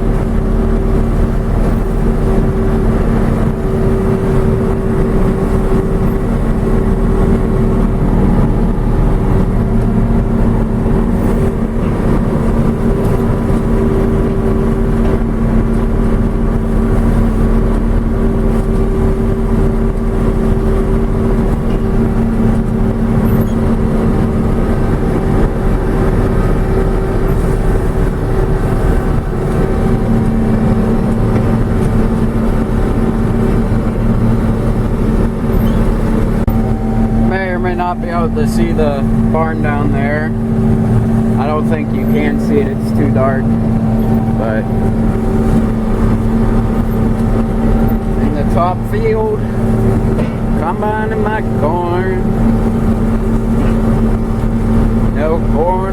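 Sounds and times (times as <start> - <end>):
combine harvester humming: 0.0 - 55.9.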